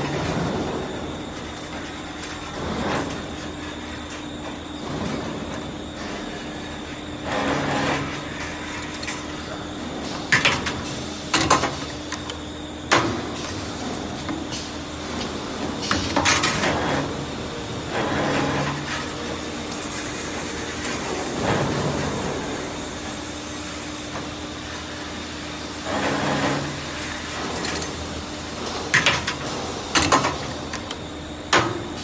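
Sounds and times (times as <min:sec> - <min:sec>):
wire bending machine humming: 0:00.0 - 0:32.0.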